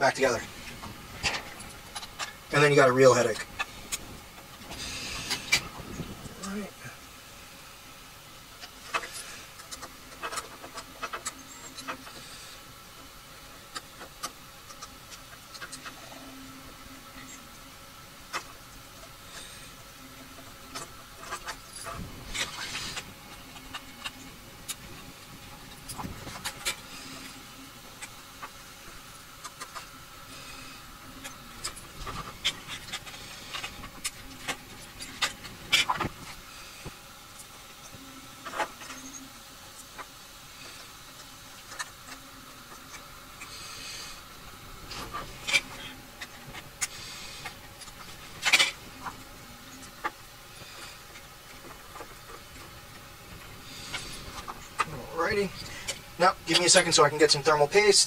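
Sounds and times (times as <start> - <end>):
wires rustling: 0.0 - 58.0.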